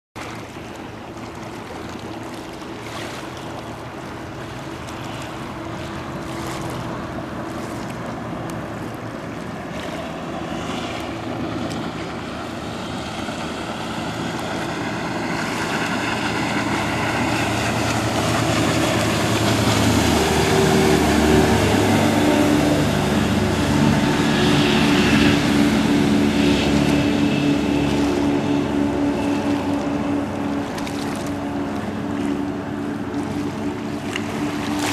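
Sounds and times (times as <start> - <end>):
boat engines humming: 0.2 - 34.9
hull spray and wake hissing: 0.3 - 34.9.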